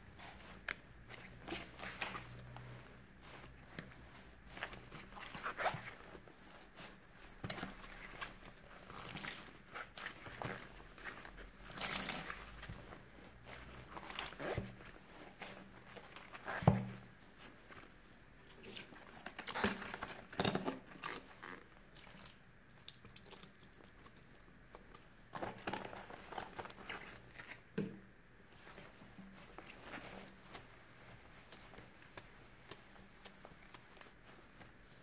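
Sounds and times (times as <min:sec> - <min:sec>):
wet sponges squishing: 0:00.0 - 0:27.8, 0:28.4 - 0:35.0.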